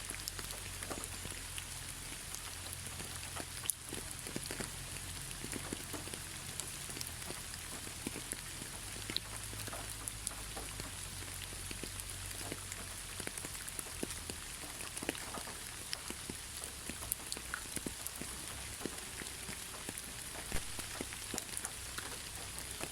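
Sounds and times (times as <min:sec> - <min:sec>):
rain pattering on hard surface: 0:00.0 - 0:22.9.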